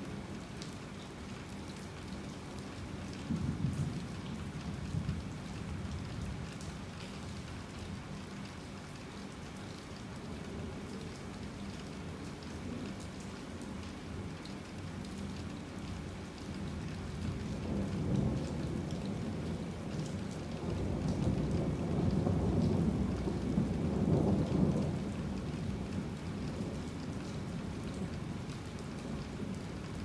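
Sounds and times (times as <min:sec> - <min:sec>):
heavy rain: 0:00.1 - 0:30.0.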